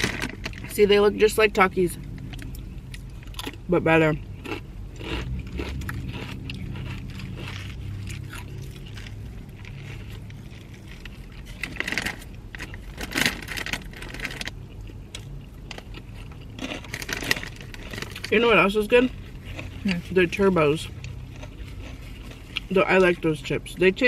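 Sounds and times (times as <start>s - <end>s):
crunching tortilla chips: 0.0s - 0.8s, 2.3s - 23.5s
steady low hum: 0.0s - 24.0s.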